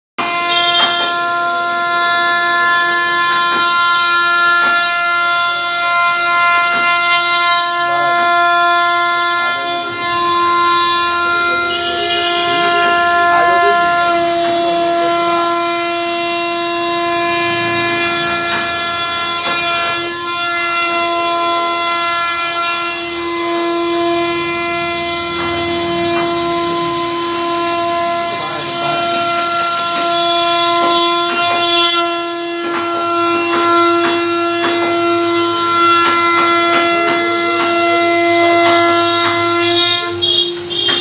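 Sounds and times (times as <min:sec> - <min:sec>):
router spindle whining: 0:00.2 - 0:41.0.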